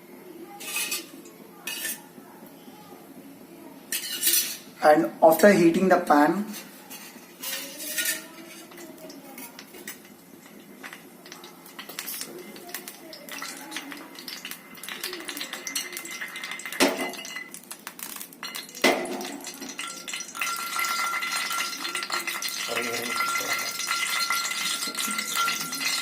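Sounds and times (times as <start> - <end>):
metal cookware clinking: 0.6 - 2.0, 3.9 - 4.7, 6.5 - 26.0.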